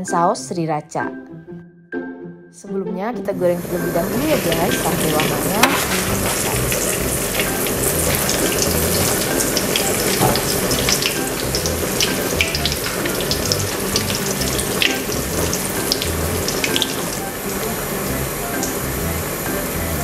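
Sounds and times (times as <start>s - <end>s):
spring rolls deep-frying in oil: 3.6s - 20.0s.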